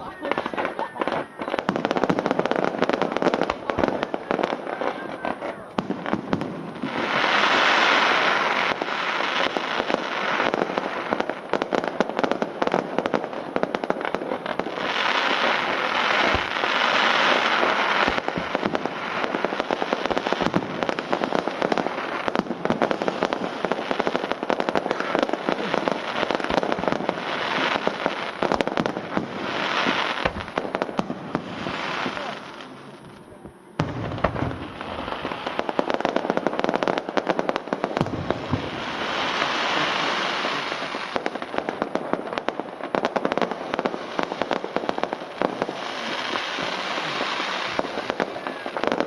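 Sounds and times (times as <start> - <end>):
deep firework booms: 0.0 - 49.0
fireworks bangs and crackling: 0.0 - 49.0.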